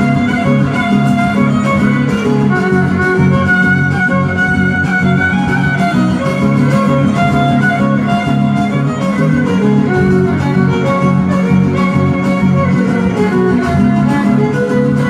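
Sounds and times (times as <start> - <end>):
rhythmic guitar accompaniment: 0.0 - 15.0
violin melody: 0.0 - 15.0.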